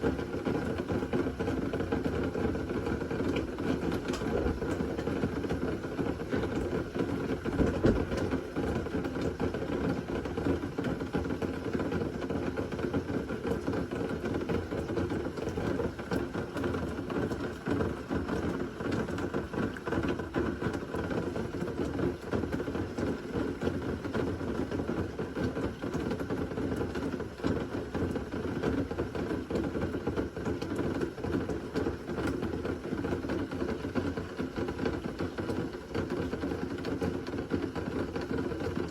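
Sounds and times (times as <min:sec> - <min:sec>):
rain falling: 0:00.1 - 0:38.9.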